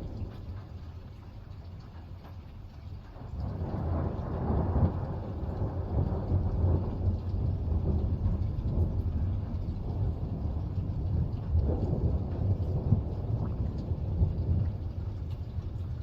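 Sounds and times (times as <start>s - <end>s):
thunder rumbling: 0.0s - 2.1s, 3.1s - 16.0s.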